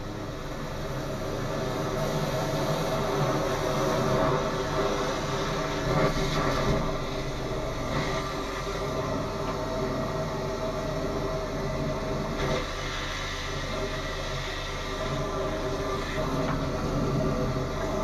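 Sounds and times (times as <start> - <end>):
drain jetter humming and hissing: 0.0 - 18.0.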